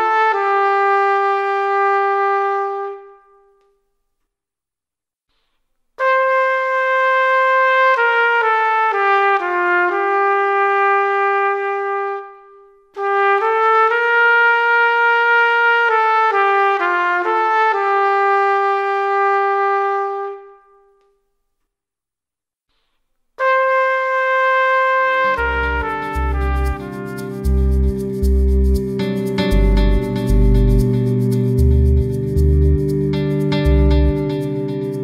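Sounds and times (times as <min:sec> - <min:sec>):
brass instrument melody: 0:00.0 - 0:03.8, 0:06.0 - 0:21.2, 0:23.4 - 0:35.0.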